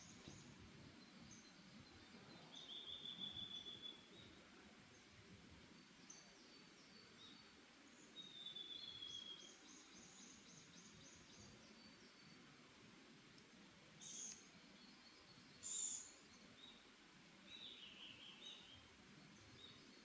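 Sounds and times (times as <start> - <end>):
soft background hiss: 0.0 - 20.0.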